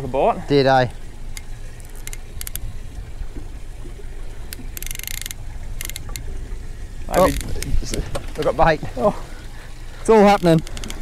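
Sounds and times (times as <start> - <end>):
water sloshing against boat: 0.0 - 11.0.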